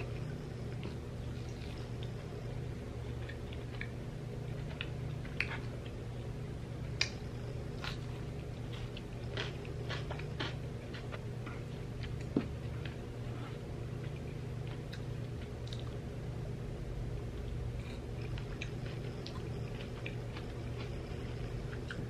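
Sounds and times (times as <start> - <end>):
person chewing: 0.0 - 6.3, 6.9 - 16.1, 17.4 - 22.0
steady low hum: 0.0 - 22.0.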